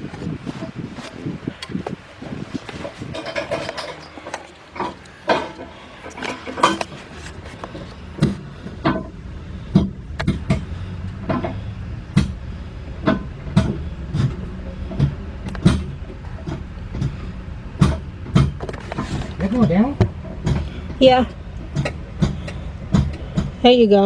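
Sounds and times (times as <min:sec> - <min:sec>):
steady low hum: 0:00.0 - 0:24.0
metal clicks and clanks: 0:02.6 - 0:23.8.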